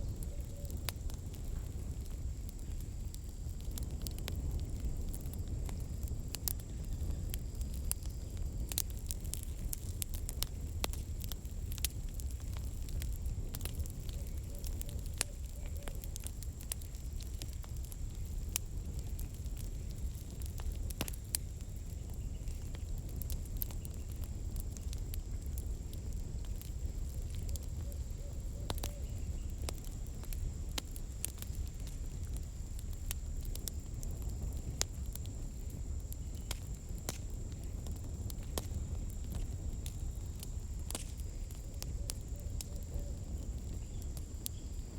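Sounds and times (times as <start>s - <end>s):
firewood crackling and popping: 0.0s - 44.9s.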